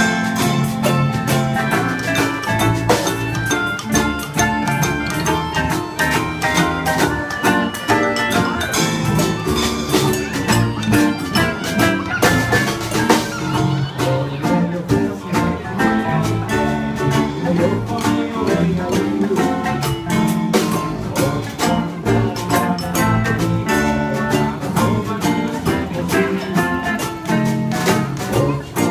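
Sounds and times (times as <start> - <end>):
hand drum beat: 0.0 - 28.9
strummed ukuleles and guitar: 0.0 - 28.9
upright bass: 0.0 - 28.9.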